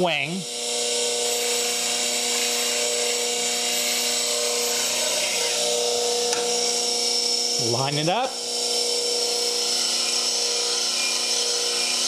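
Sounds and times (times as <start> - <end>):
bench grinder motor whine: 0.0 - 12.0.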